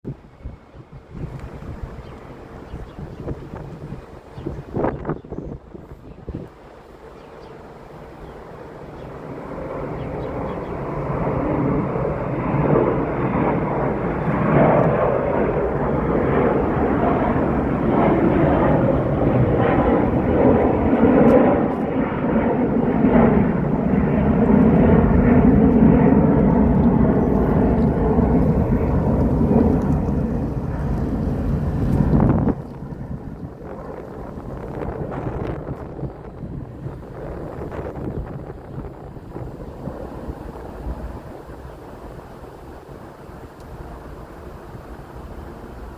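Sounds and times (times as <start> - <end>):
jet engines roaring: 0.1 - 45.9.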